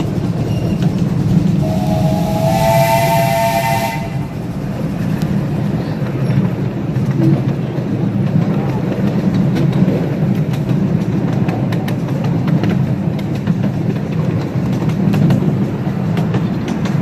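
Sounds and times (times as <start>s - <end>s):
track clicks and clacks: 0.0s - 2.0s, 4.2s - 17.0s
train wheels rumbling on rails: 0.0s - 17.0s.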